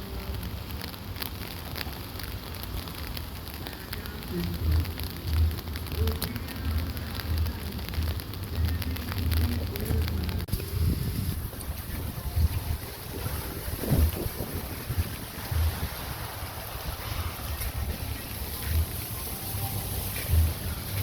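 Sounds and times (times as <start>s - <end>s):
light rain falling: 0.0s - 21.0s
pulsing low rumble: 3.4s - 21.0s.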